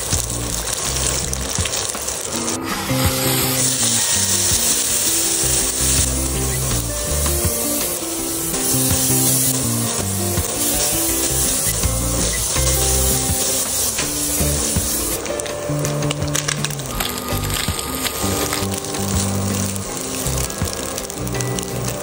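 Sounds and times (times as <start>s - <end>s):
background music with bass line: 0.0s - 1.8s, 2.4s - 22.0s
spice paste sizzling in oil: 0.0s - 22.0s.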